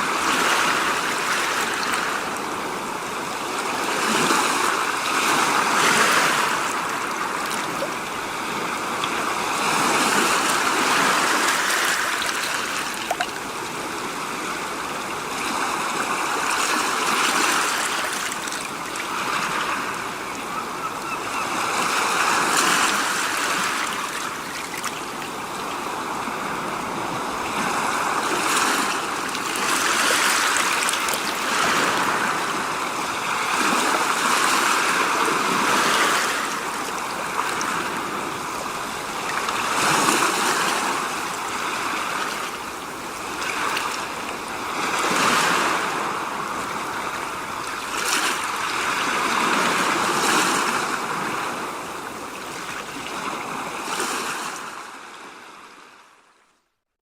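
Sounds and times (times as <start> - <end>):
rushing water: 0.0 - 56.1.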